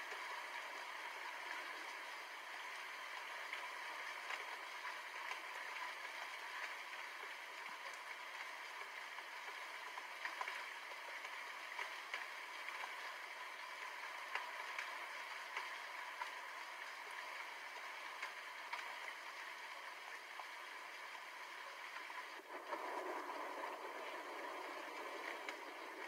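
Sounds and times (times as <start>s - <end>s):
raindrops ticking: 0.0s - 26.0s
steady rain hissing: 0.0s - 26.0s.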